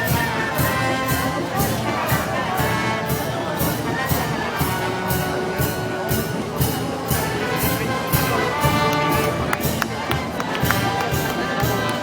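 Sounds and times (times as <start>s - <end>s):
brass band playing march: 0.0s - 12.0s
drums and cymbals beat: 0.0s - 12.0s.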